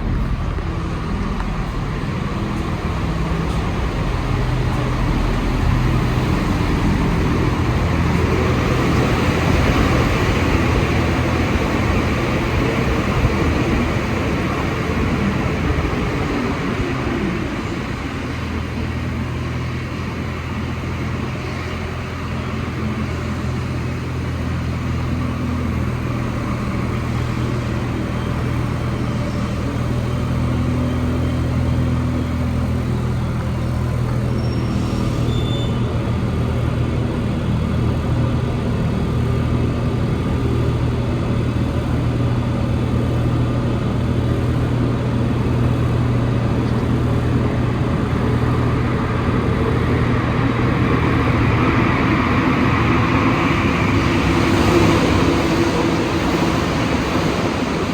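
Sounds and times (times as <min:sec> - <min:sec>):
metro car motors and rolling hum: 0:00.0 - 0:57.9.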